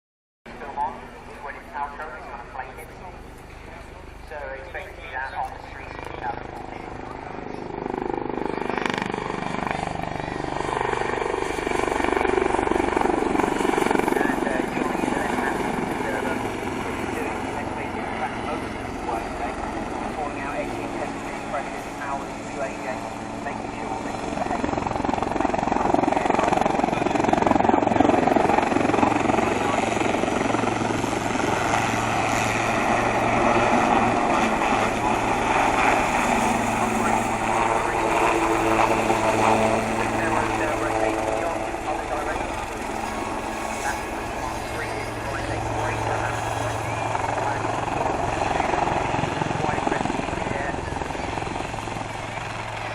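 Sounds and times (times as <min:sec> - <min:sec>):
helicopter engine noise: 0:00.5 - 0:52.9
helicopter rotor beating: 0:00.5 - 0:52.9.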